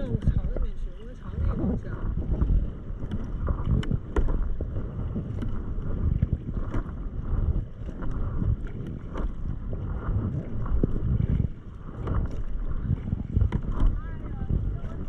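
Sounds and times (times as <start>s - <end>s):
paddle splashing in water: 0.0s - 15.0s
wind rumble on microphone: 0.0s - 15.0s.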